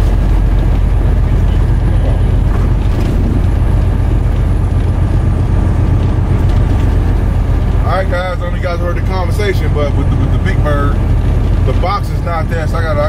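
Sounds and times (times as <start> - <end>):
diesel engine and tyres droning: 0.0 - 13.0.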